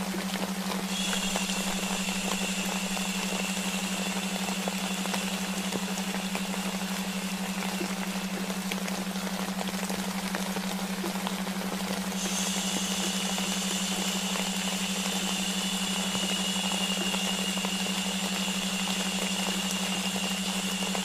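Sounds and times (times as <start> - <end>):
low droning tone: 0.0 - 21.0
rain: 0.0 - 21.0
white noise hiss: 0.0 - 21.0.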